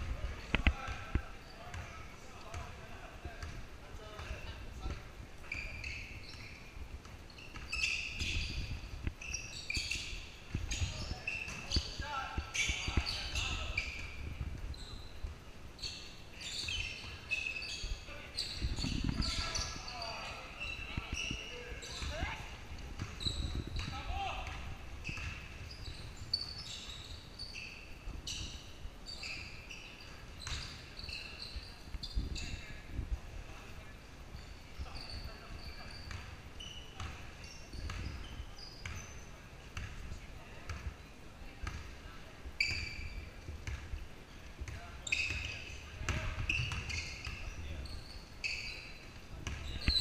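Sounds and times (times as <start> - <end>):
sneakers squeaking on wood floor: 0.0 - 32.9, 33.5 - 50.0.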